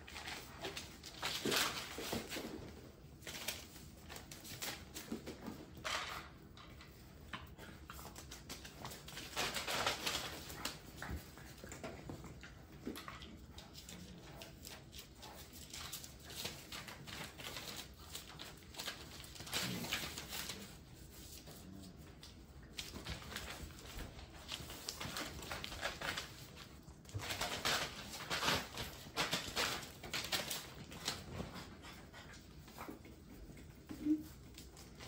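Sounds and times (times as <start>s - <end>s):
paws pattering on hard floor: 0.0s - 35.0s
puppies scuffling: 0.0s - 35.0s.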